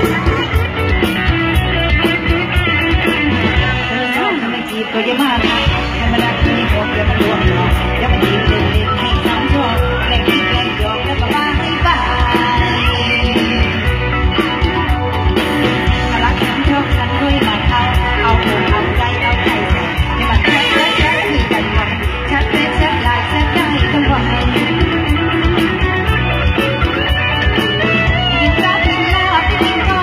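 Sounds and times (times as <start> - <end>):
heavy bass and drum beat: 0.0 - 30.0
live band over loudspeakers: 0.0 - 30.0.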